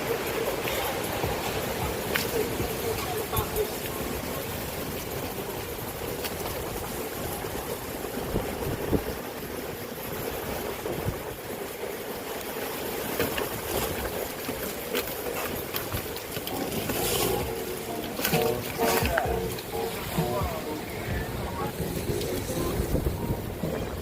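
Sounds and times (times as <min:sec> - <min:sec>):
storm wind buffeting microphone: 0:00.0 - 0:24.0.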